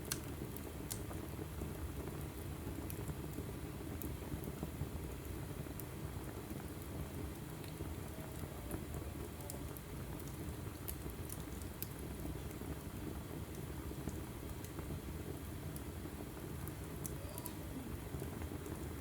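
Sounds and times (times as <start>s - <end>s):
fire flames rushing: 0.0s - 19.0s
logs crackling and popping: 0.0s - 19.0s.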